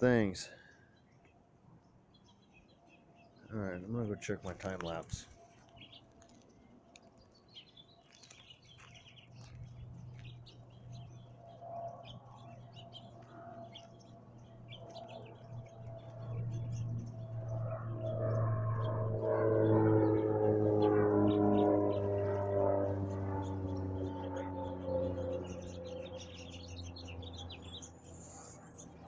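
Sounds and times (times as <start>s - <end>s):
small birds chirping: 0.0s - 29.0s
low steady hum: 3.4s - 29.0s.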